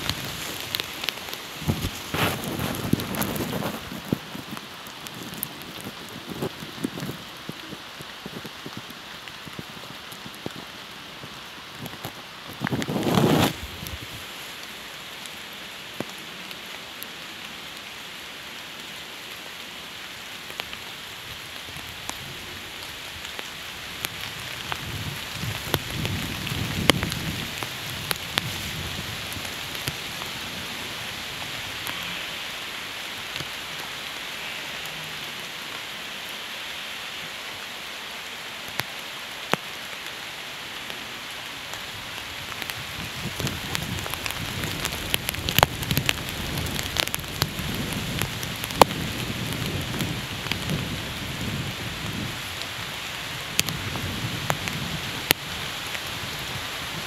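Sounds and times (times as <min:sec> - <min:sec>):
sharp raindrop ticks: 0:00.0 - 0:35.9, 0:38.6 - 0:40.2, 0:40.8 - 0:57.0
steady rain falling: 0:00.0 - 0:57.0.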